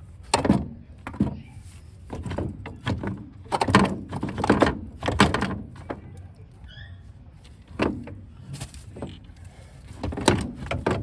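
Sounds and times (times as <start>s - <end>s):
metal clunks and scrapes: 0.0s - 6.2s, 7.4s - 11.0s.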